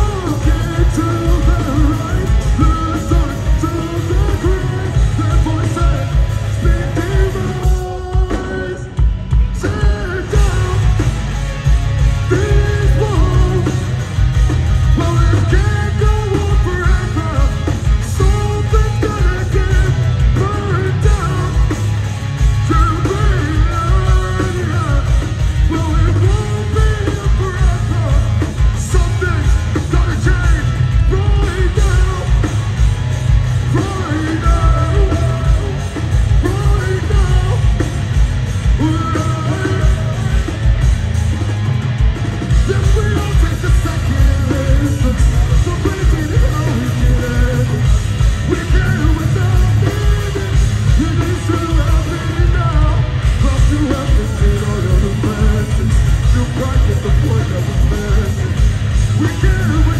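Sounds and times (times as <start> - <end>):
lead vocals: 0.0 - 59.9
live metal band playing: 0.0 - 59.9.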